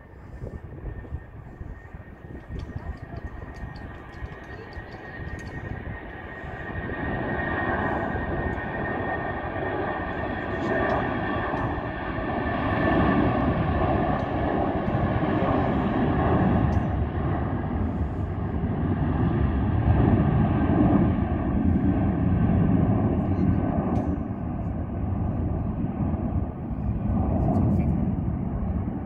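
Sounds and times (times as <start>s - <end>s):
jet airliner taking off: 0.0s - 29.0s.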